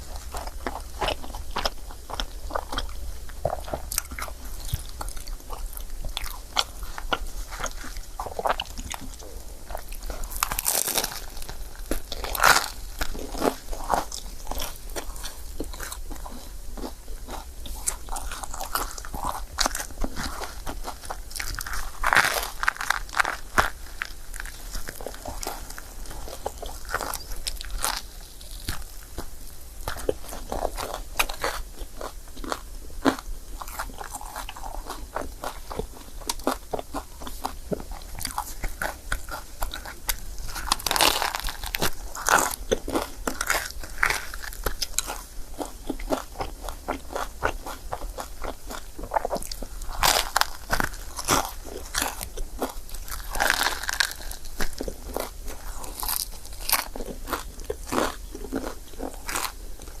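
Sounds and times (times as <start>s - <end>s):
chewing and biting crunches: 0.0s - 60.0s.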